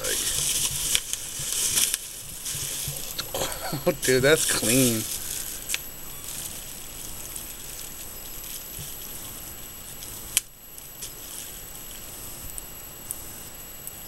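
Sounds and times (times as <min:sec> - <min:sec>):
faint high whine: 0:00.0 - 0:14.0
low steady background noise: 0:00.0 - 0:14.0.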